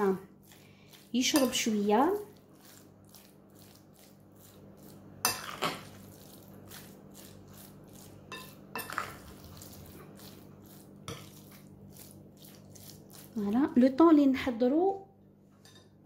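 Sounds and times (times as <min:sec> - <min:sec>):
spoon stirring wet chicken: 0:00.0 - 0:14.0.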